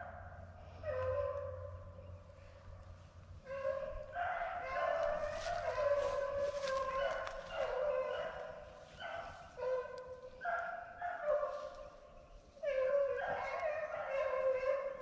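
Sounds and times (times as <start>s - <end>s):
beagles baying: 0.0s - 15.0s.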